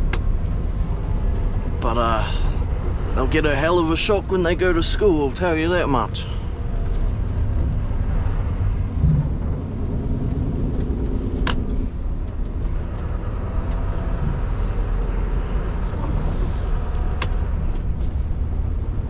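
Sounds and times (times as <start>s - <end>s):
diesel truck engine rumbling: 0.0s - 19.0s
road noise: 0.0s - 19.0s.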